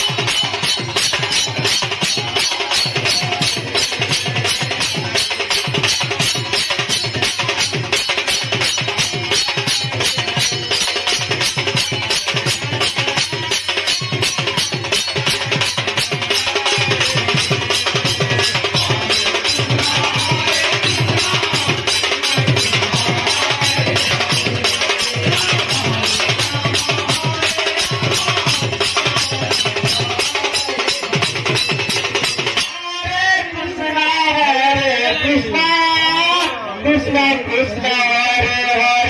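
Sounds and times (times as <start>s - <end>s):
fast drum music: 0.0s - 33.7s.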